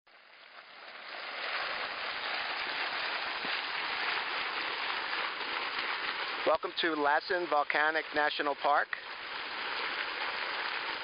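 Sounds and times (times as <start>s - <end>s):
mud pot boiling and bubbling: 0.1s - 11.0s.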